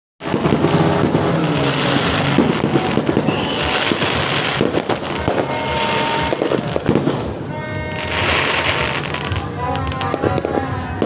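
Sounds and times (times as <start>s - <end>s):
fireworks cracking and banging: 0.2s - 11.0s.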